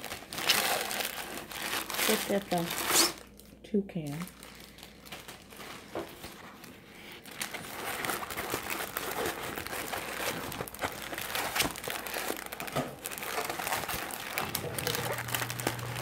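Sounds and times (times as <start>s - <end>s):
canvas and paper crinkling: 0.0s - 3.4s, 4.0s - 16.0s.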